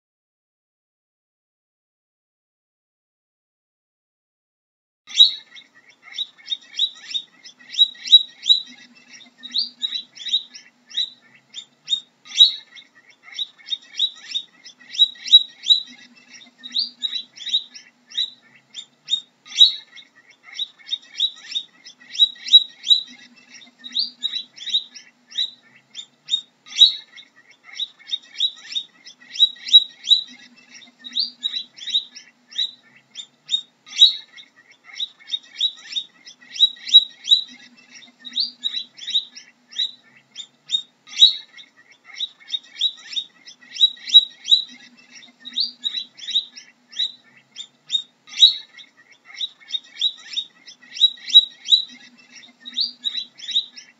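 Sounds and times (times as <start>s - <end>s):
guinea pig squeaking: 5.1s - 53.9s.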